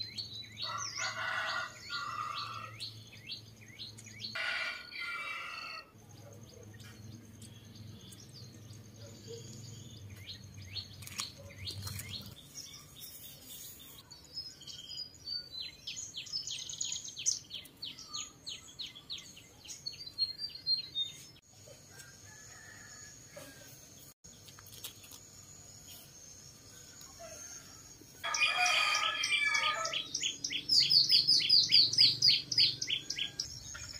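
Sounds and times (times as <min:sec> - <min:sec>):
small birds chirping: 0:00.0 - 0:04.4, 0:05.0 - 0:21.5, 0:24.0 - 0:33.9.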